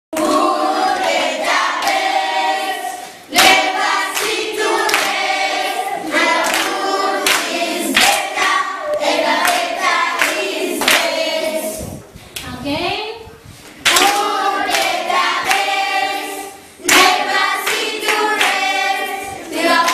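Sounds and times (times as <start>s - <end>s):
children singing in chorus: 0.2s - 11.8s, 13.9s - 19.9s.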